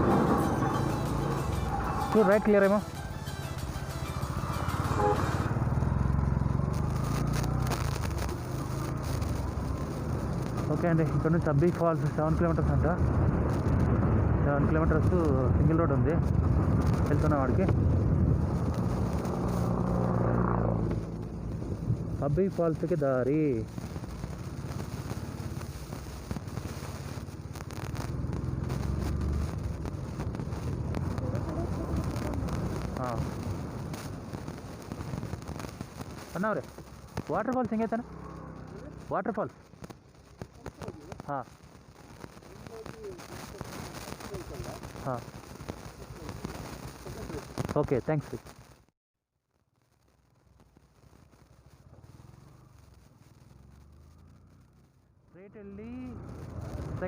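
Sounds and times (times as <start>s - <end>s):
motorcycle engine running: 0.0s - 41.3s, 51.8s - 57.0s.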